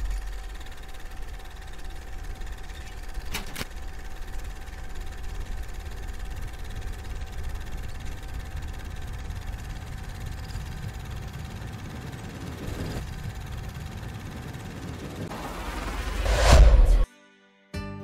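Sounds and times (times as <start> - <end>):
mechanical whirring with hum: 0.0 - 17.0.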